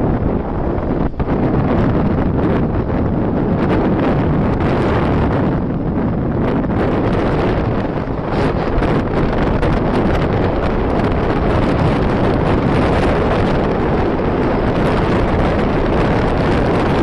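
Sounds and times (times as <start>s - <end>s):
deep rumble: 0.0s - 17.0s
wind buffeting microphone: 0.0s - 17.0s.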